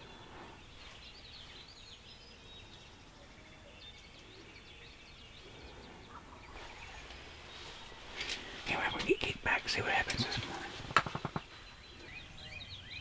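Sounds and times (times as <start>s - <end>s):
outdoor background hiss: 0.0s - 13.0s
songbirds chirping: 0.0s - 13.0s.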